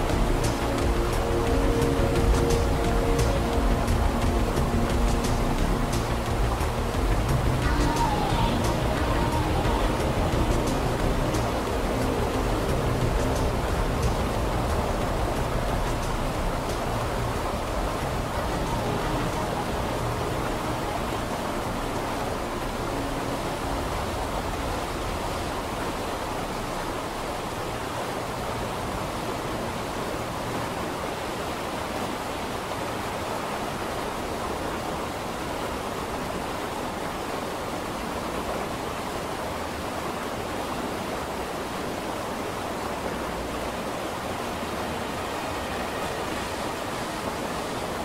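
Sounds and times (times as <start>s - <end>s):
steady rushing noise: 0.0s - 48.0s.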